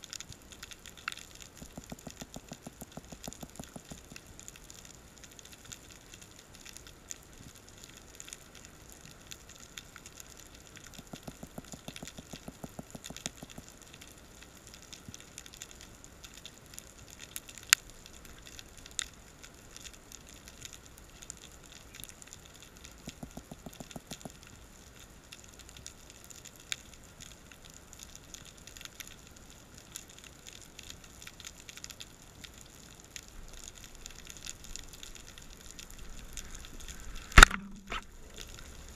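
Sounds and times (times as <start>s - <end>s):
snapping shrimp crackling underwater: 0.0s - 38.9s.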